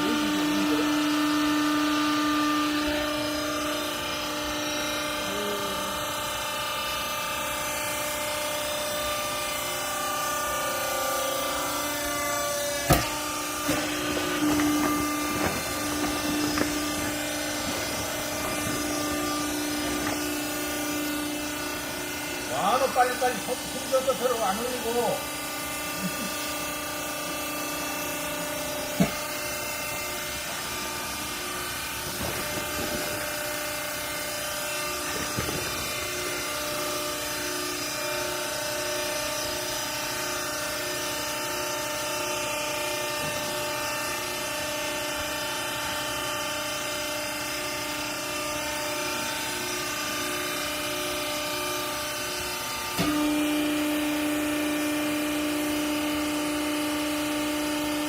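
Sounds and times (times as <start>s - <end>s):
hydraulic pump motor humming: 0.0s - 58.0s.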